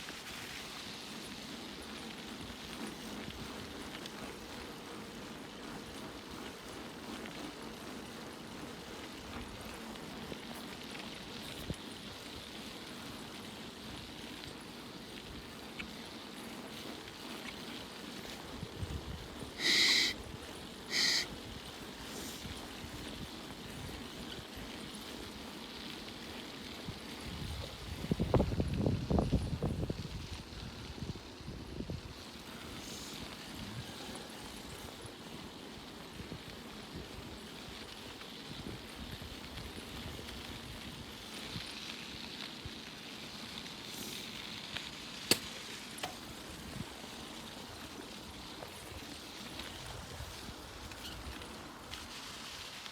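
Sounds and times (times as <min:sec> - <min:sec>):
bicycle tyres and wind rushing: 0:00.0 - 0:52.9.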